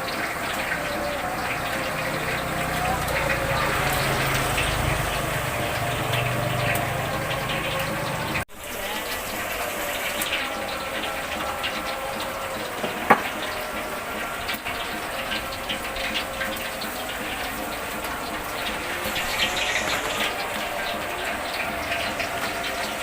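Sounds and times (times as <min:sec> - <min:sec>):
rain pouring down: 0:00.0 - 0:23.0.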